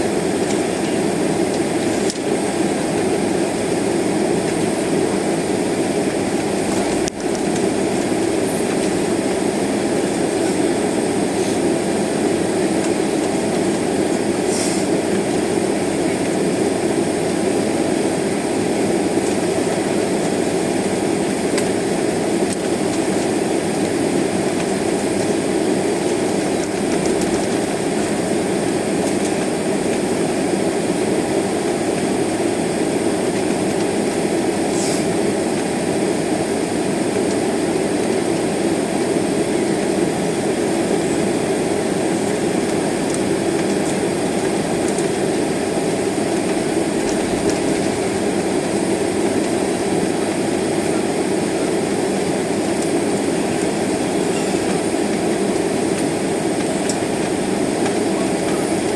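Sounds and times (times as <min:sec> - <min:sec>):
jet engines at low thrust: 0:00.0 - 0:58.9
plane rolling rumble: 0:00.0 - 0:58.9.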